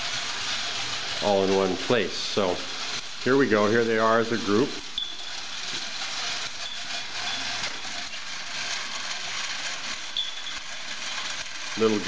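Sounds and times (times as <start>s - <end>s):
gear and chain mechanisms clattering: 0.0s - 12.0s.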